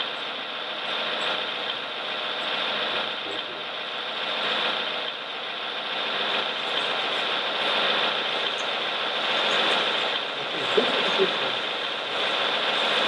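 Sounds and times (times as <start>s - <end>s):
model machine motor drone: 0.0s - 13.0s.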